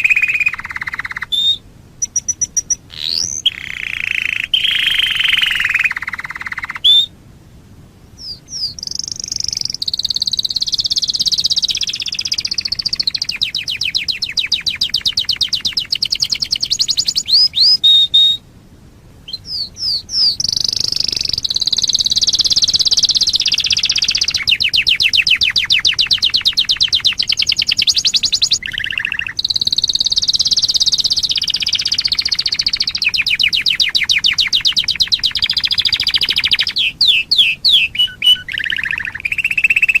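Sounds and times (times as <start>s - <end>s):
canary singing with rolling trills: 0.0s - 7.1s, 8.2s - 18.4s, 19.2s - 40.0s.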